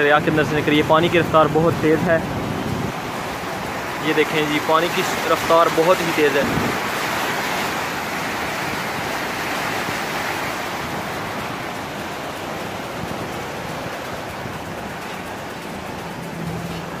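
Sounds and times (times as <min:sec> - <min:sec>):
turbulent water rushing: 0:00.0 - 0:17.0.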